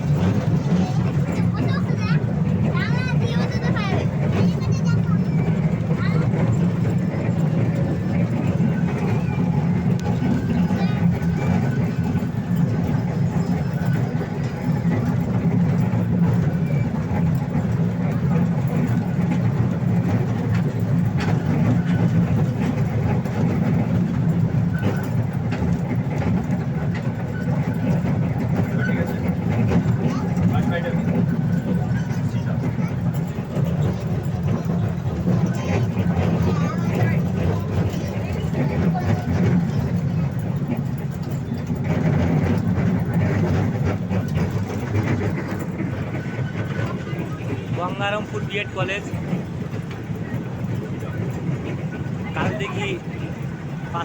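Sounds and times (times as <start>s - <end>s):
toy train low rumble: 0.0s - 54.0s
train clicks: 0.0s - 54.0s.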